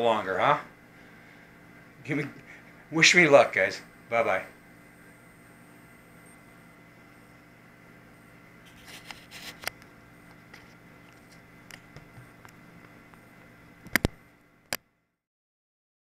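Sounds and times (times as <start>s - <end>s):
faint hum: 0.0s - 15.2s.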